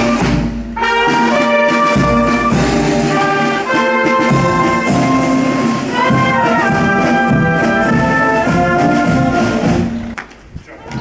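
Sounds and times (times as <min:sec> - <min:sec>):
marching wind band playing: 0:00.0 - 0:10.2.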